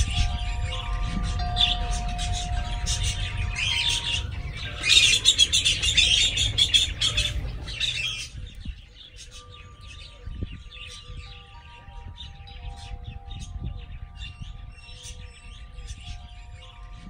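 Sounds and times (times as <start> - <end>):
birds chirping: 0.0 - 17.0
faint held musical tones: 0.0 - 17.0.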